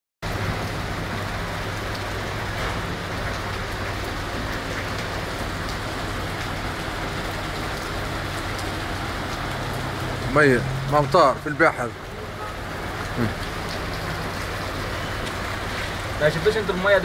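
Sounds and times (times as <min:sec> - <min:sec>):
car wheels through water: 0:00.2 - 0:17.0
rain falling: 0:00.2 - 0:17.0.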